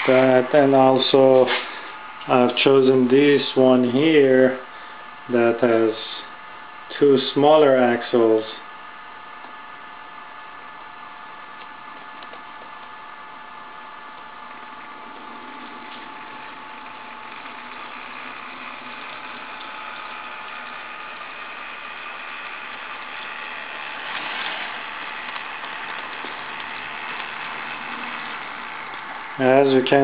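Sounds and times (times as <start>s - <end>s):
model train motor whine: 0.0s - 30.0s.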